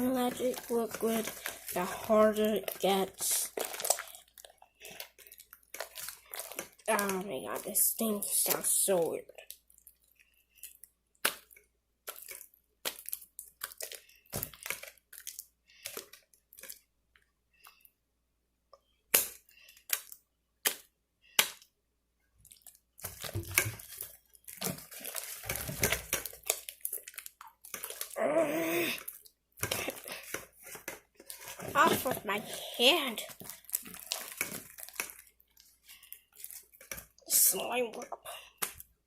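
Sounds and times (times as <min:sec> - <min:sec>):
slime squelching: 0:00.0 - 0:18.0, 0:18.8 - 0:39.0.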